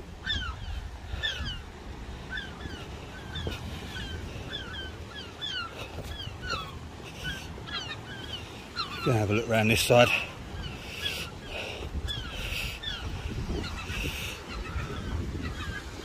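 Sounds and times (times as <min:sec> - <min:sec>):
wind rumble on microphone: 0:00.0 - 0:07.7, 0:10.4 - 0:16.0
birds calling: 0:00.0 - 0:16.0.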